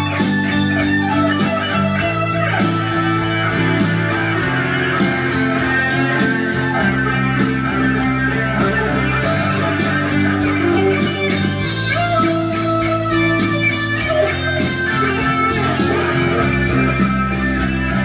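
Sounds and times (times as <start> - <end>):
electric guitar held notes: 0.0 - 18.0
ticking beat: 0.0 - 18.0.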